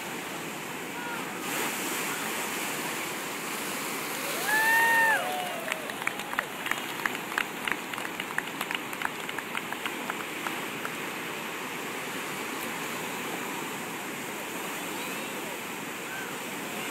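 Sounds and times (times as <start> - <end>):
ocean surf breaking: 0.0 - 16.9.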